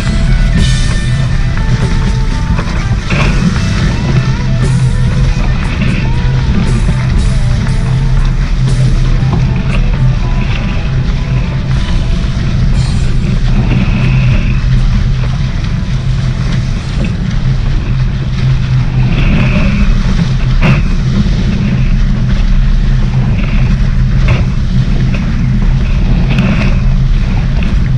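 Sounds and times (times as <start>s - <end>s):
water rushing past boat: 0.0s - 27.9s
wind buffeting microphone: 0.0s - 27.9s.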